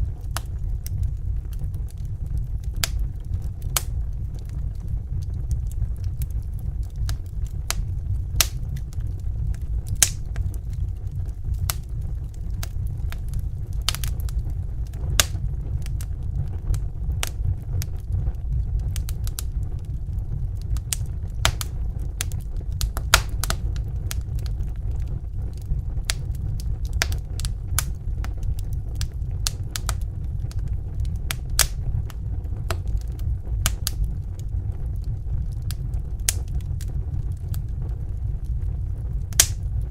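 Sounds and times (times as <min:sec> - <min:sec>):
flames rumbling: 0:00.0 - 0:39.9
wood fire crackling: 0:00.0 - 0:39.9.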